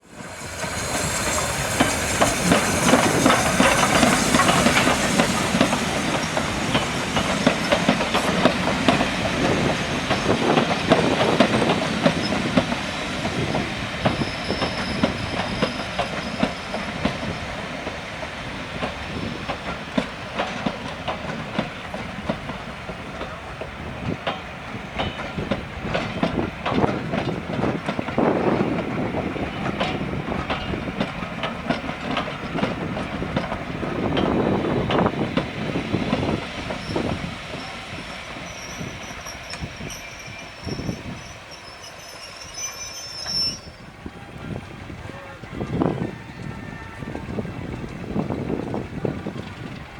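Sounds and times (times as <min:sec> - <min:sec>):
train wheels clicking over rail joints: 0:00.1 - 0:49.9.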